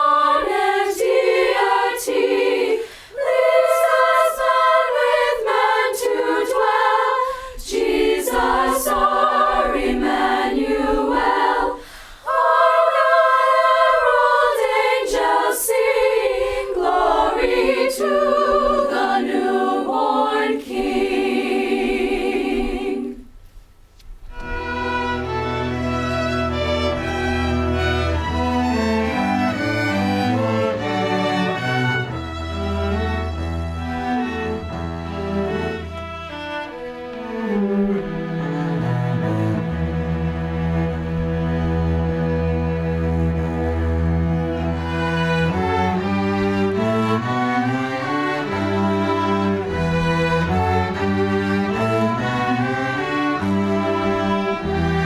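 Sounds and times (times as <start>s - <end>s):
bowed string ensemble: 0.0s - 23.2s, 24.3s - 55.0s
choir singing unaccompanied: 0.0s - 23.4s, 24.4s - 36.0s, 36.6s - 55.0s.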